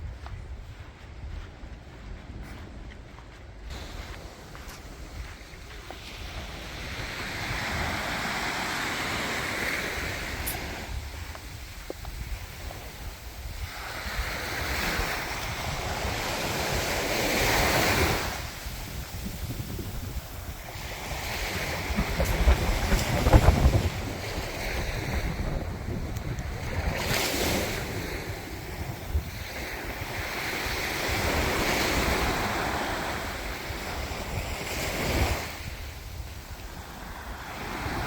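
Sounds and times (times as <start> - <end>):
wind buffeting microphone: 0.0 - 38.0
waves washing onto shore: 3.7 - 38.0.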